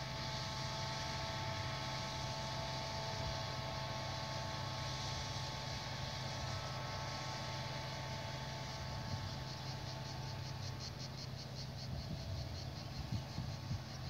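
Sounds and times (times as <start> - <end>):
insects chirping in pulses: 0.0 - 14.0
steady low hum: 0.0 - 14.0.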